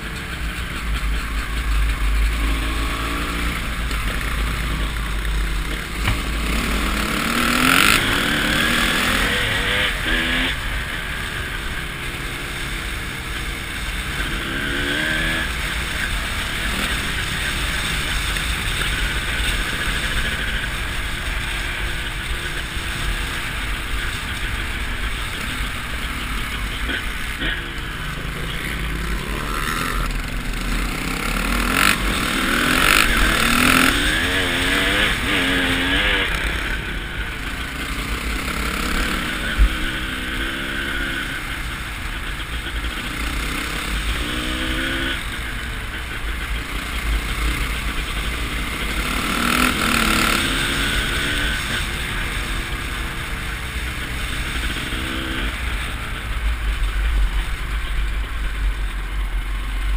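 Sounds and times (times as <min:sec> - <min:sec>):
dirt bike engine revving: 0:00.0 - 0:58.6.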